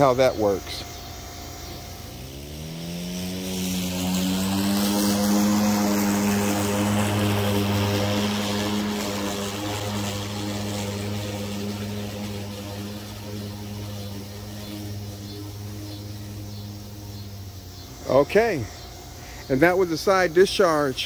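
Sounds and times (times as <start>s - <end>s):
electric lawn mower humming: 0.0s - 21.0s
mower blade hissing through grass: 0.0s - 21.0s.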